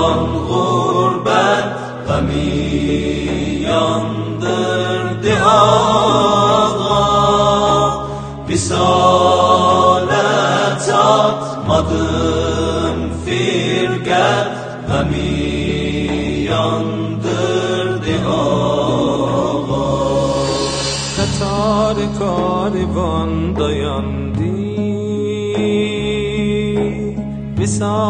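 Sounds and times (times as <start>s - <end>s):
low held bass notes: 0.0s - 28.0s.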